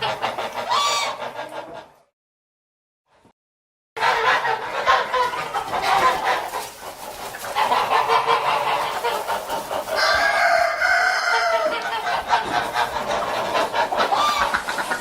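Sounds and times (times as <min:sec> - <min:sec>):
geese calling: 0:00.0 - 0:01.9, 0:04.0 - 0:15.0.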